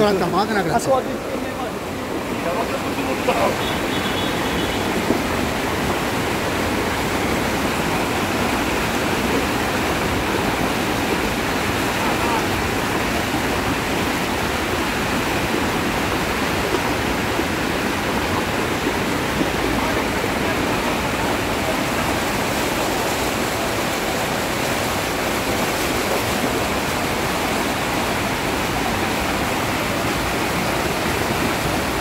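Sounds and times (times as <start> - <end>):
flooded torrent rushing: 0.0 - 32.0.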